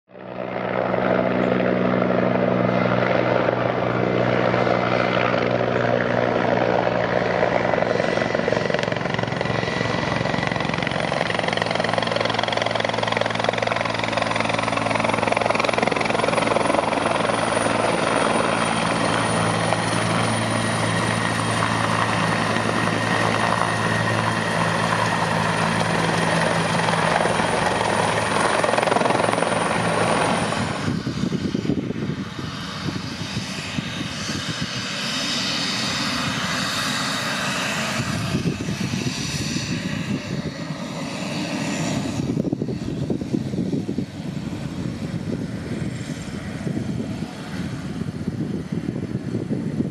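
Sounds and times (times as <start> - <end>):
helicopter rotor and engines: 0.1 - 49.9
high turbine whine: 0.2 - 49.9.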